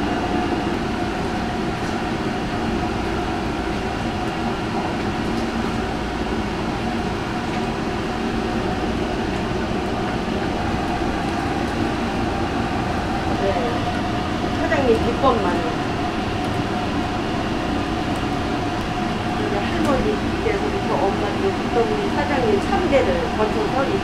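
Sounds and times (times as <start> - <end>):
broth boiling hard in cauldron: 0.0 - 24.0
kitchen vent fans and burners: 0.0 - 24.0.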